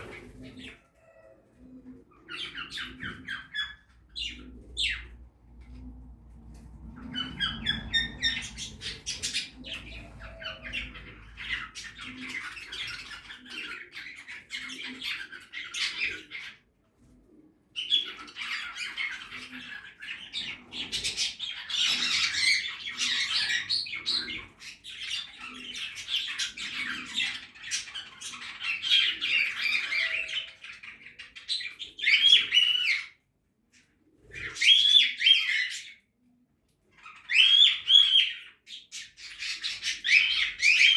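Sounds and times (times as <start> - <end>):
budgerigars chattering and squawking: 2.2 - 5.7, 6.8 - 16.7, 17.8 - 33.2, 33.8 - 36.0, 37.0 - 40.9.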